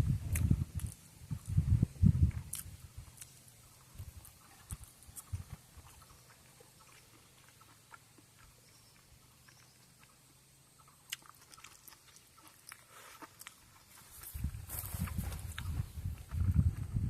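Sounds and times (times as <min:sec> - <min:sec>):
quiet low hum: 0:00.0 - 0:17.0.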